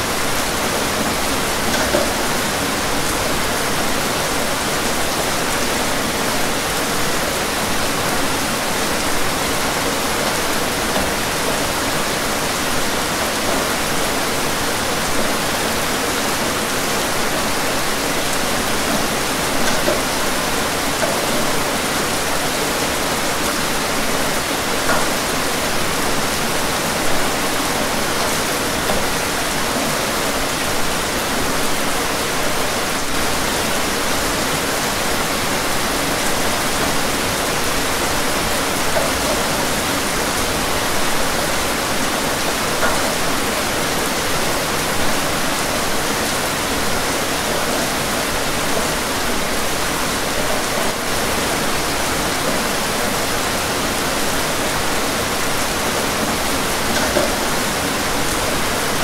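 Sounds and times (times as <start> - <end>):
rain on window glass: 0.0 - 59.0.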